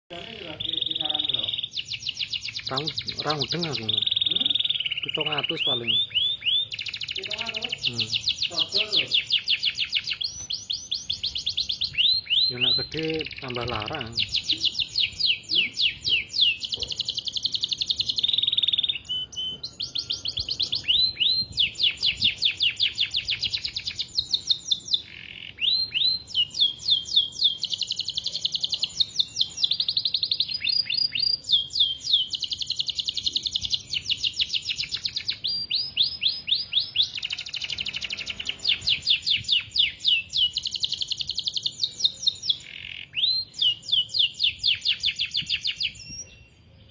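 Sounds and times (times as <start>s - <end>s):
canary singing trills: 0.1s - 46.9s.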